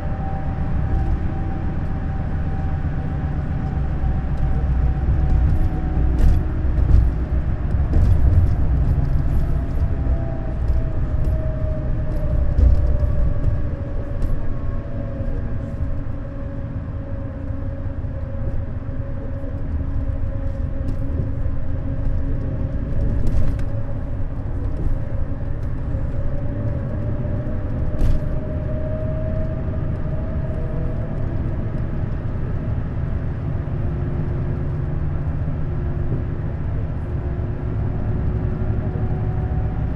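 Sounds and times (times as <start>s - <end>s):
coach engine and road rumble: 0.0s - 39.9s
engine whine: 0.0s - 39.9s.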